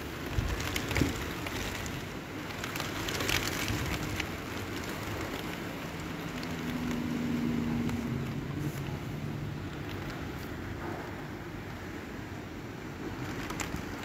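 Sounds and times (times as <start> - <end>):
steady rain hiss: 0.0 - 14.0
vehicle engine hum: 0.0 - 14.0.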